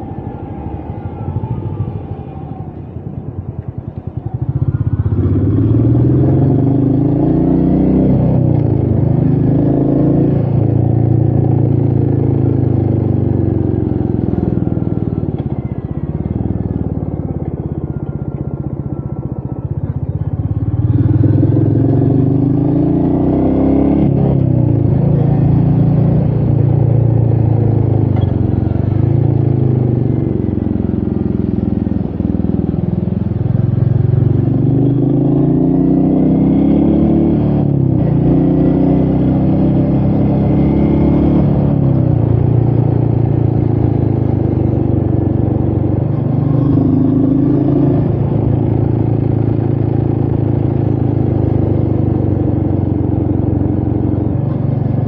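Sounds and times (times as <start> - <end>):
motorcycle engine shifting gears: 0.0 - 55.0.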